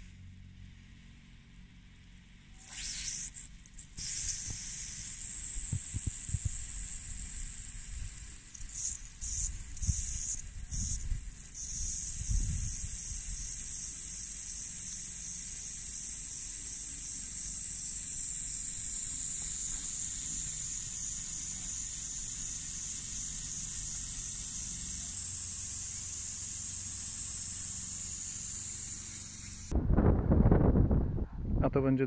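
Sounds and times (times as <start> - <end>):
sprinklers hissing: 4.0 - 29.7.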